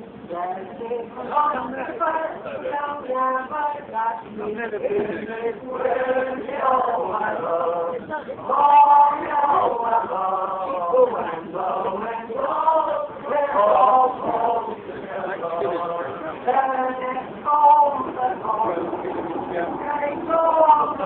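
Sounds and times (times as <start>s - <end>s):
men singing chant-like song: 1.1s - 21.0s.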